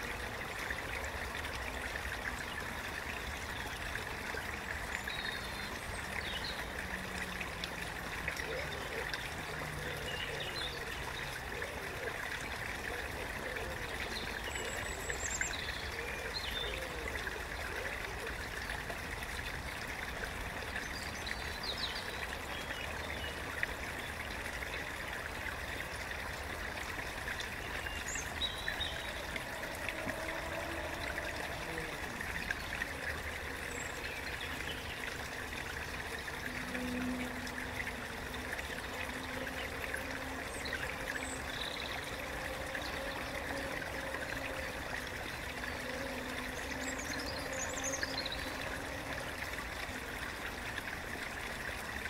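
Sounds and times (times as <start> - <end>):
stream trickling and babbling: 0.0 - 52.0.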